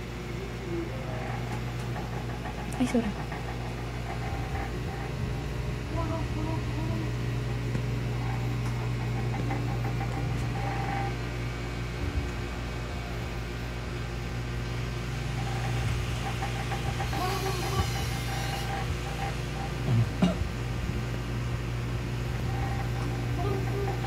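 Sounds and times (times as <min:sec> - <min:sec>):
tattoo machine humming: 0:00.0 - 0:13.6, 0:14.7 - 0:20.5, 0:22.2 - 0:24.0.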